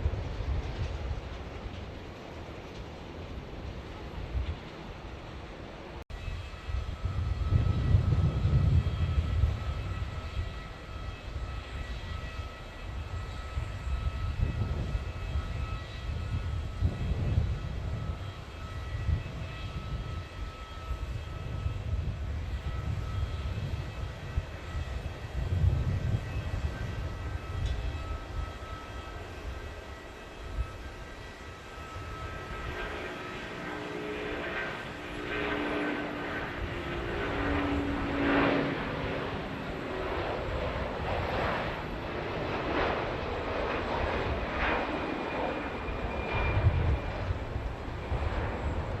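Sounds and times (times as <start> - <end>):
high-pitched jet engine whine: 0.0 - 49.0
jet engine low rumble: 0.0 - 49.0.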